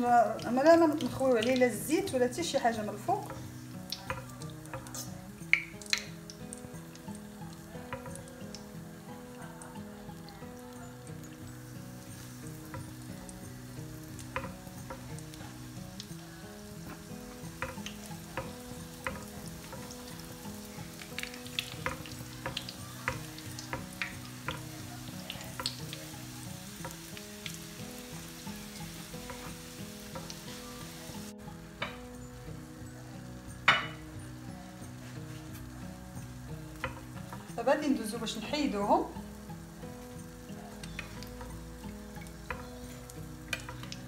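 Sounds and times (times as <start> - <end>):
dough deep-frying in oil: 0.0 - 44.0
quiet background music: 0.0 - 44.0.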